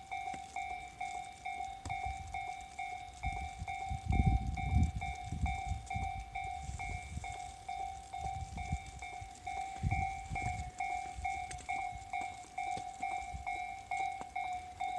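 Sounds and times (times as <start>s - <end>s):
electronic crossing bell dinging: 0.0s - 14.9s.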